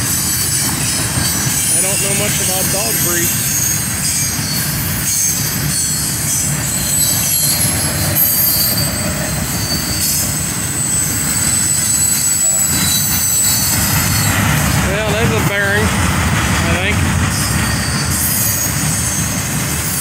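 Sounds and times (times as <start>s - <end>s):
steel wheels rumbling on rail: 0.0s - 20.0s
high-pitched wheel squeal: 0.2s - 14.5s, 17.3s - 20.0s.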